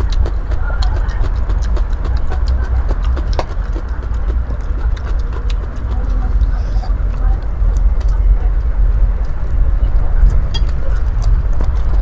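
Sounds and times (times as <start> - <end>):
crisp chewing crunches: 0.0 - 12.0
steady low rumble: 0.0 - 12.0.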